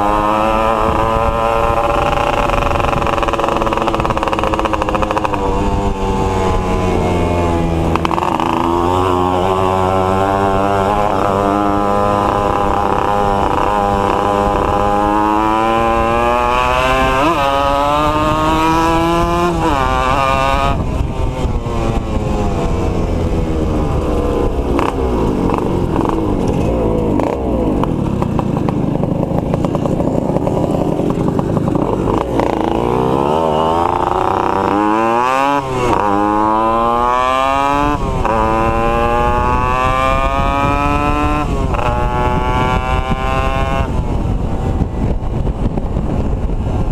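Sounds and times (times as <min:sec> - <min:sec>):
two-stroke motorcycle engines revving: 0:00.0 - 0:46.9.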